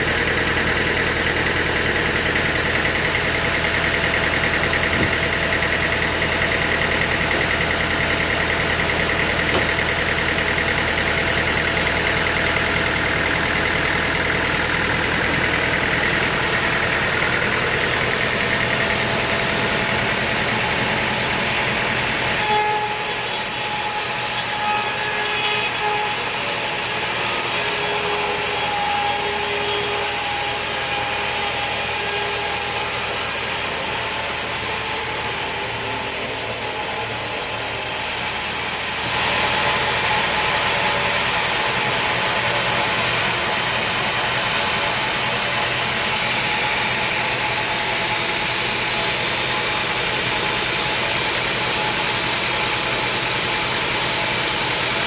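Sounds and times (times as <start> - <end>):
whining mechanical tones: 0.0 - 54.9
sawmill machinery running: 0.0 - 55.0.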